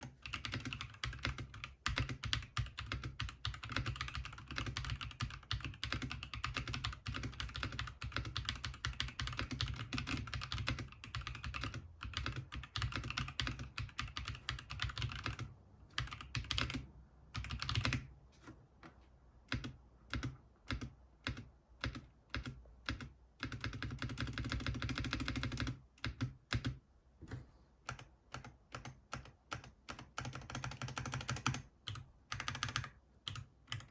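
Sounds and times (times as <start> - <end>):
typing on mechanical keyboard: 0.0 - 18.1, 19.5 - 26.8, 27.9 - 33.9.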